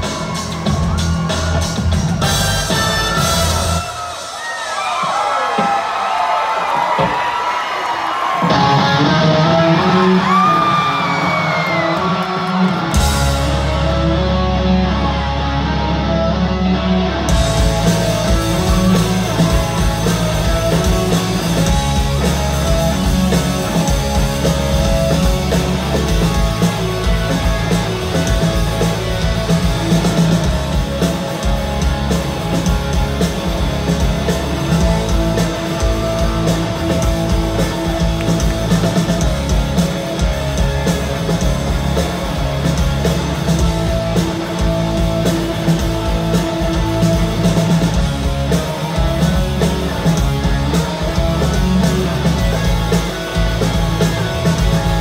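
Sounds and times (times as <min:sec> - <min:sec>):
distorted electric guitars: 0:00.0 - 0:04.4, 0:08.3 - 0:55.0
live rock band playing: 0:00.0 - 0:04.4, 0:08.2 - 0:55.0
drums: 0:00.0 - 0:55.0.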